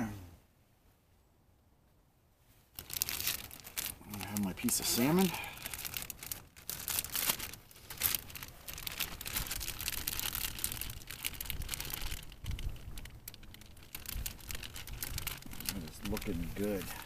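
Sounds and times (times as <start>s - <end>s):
plastic bag crinkling: 2.7s - 17.0s.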